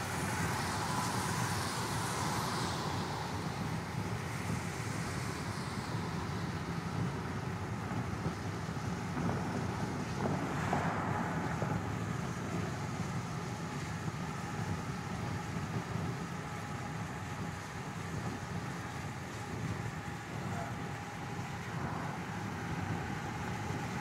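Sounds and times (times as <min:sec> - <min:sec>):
car road and engine noise: 0:00.0 - 0:24.0
tyre and wind hiss: 0:00.0 - 0:24.0.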